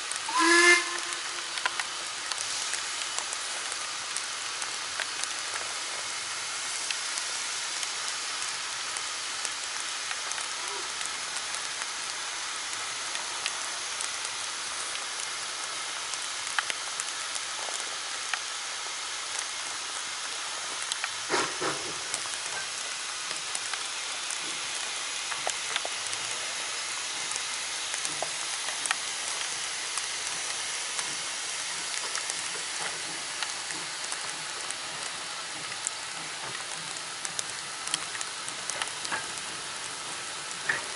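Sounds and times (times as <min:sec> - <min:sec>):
rain hissing: 0:00.0 - 0:40.9
raindrops ticking: 0:00.0 - 0:40.9.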